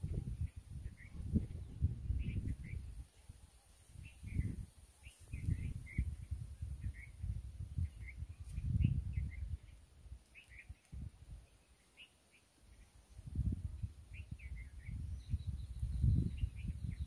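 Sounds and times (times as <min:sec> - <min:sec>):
wind rumble on microphone: 0:00.0 - 0:11.5, 0:12.7 - 0:17.0
small birds chirping: 0:00.0 - 0:17.0.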